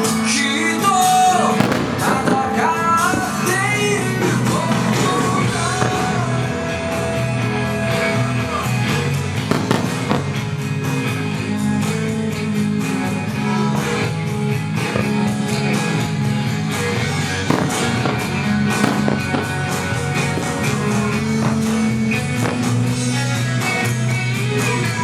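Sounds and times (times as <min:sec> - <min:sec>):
firework bursts cracking: 0:00.0 - 0:25.0
rock music over loudspeakers: 0:00.0 - 0:25.0.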